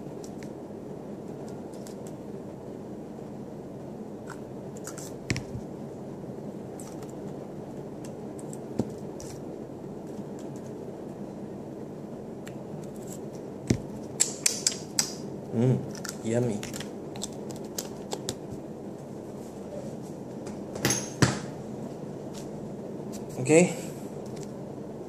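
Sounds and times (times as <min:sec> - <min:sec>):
room hum: 0:00.0 - 0:25.0.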